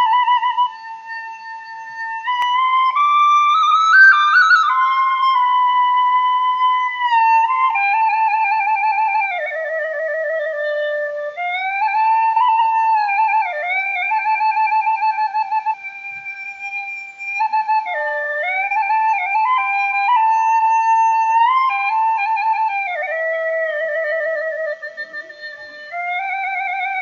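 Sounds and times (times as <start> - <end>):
solo flute melody: 0.0 - 27.0.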